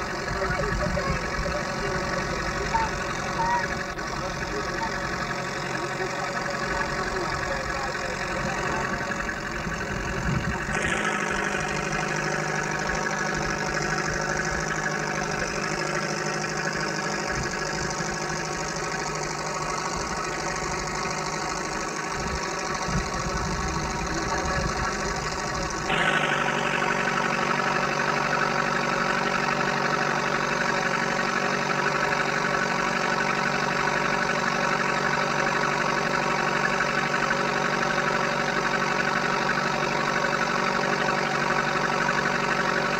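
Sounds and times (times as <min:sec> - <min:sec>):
boat engine humming: 0:00.0 - 0:42.9.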